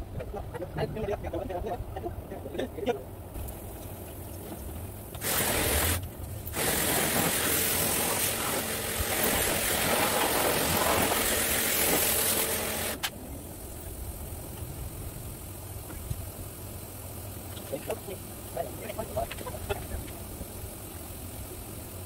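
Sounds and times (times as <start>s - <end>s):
hissing water spray: 3.4s - 22.0s.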